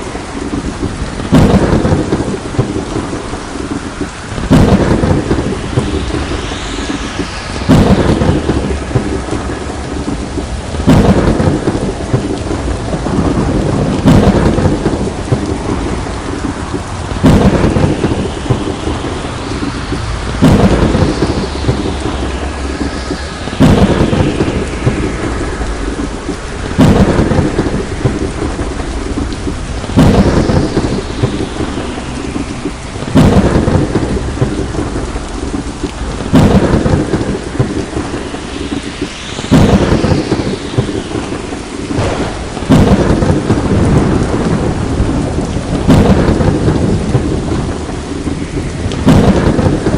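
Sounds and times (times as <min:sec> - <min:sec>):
heavy rain: 0:00.0 - 0:49.9
thunder clap and rumble: 0:00.0 - 0:49.9.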